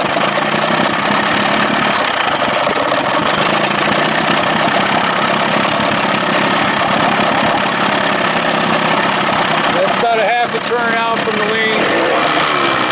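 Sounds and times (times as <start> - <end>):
outboard motor running: 0.0 - 12.9.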